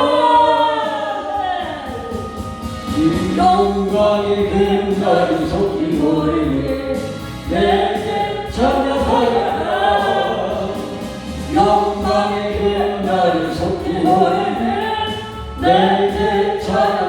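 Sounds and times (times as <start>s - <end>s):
vocal quartet singing in harmony: 0.0s - 17.0s.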